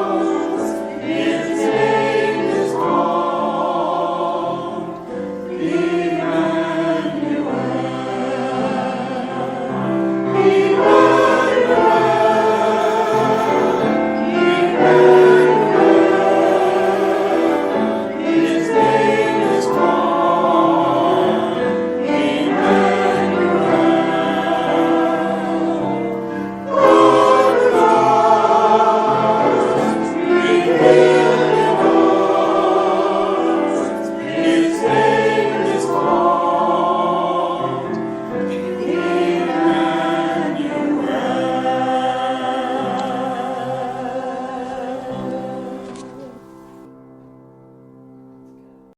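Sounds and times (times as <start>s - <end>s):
choir singing in harmony: 0.0s - 47.0s.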